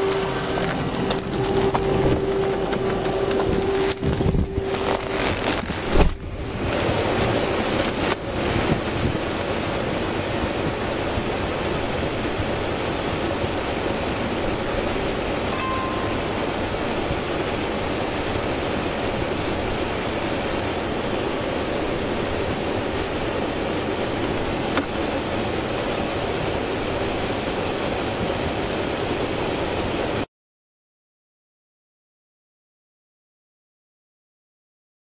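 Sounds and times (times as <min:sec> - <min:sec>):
vehicle cabin road and engine noise: 0:00.0 - 0:30.2.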